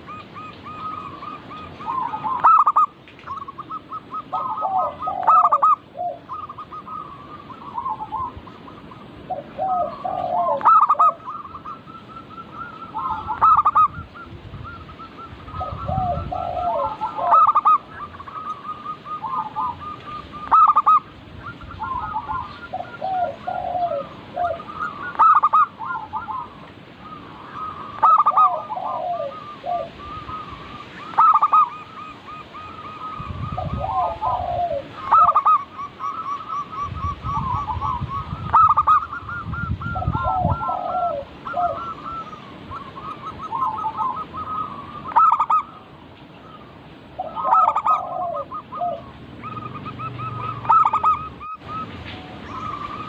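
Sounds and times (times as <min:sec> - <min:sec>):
doves cooing: 0:00.0 - 0:53.0.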